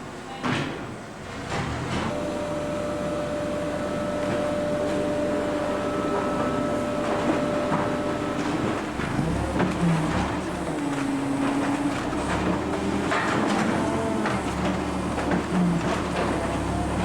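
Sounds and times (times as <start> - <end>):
baler mechanical hum: 0.0 - 17.0
conveyor whine: 0.0 - 17.0.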